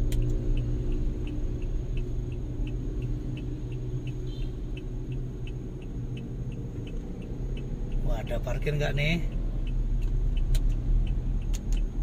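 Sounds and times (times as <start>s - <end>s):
engine and road noise hum: 0.0s - 12.0s
turn signal ticking: 0.0s - 12.0s.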